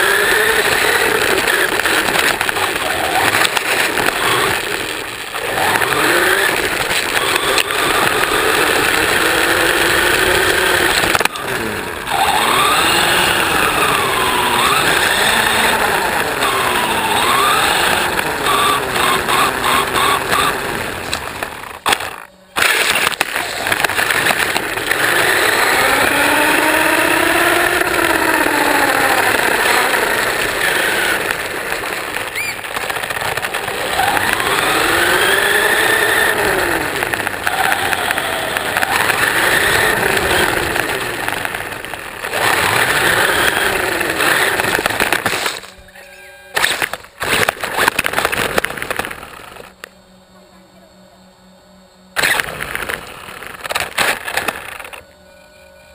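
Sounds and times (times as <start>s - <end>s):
tyres rushing on asphalt: 0.0s - 45.7s
toy car electric motor whining: 0.0s - 49.9s, 52.1s - 55.9s.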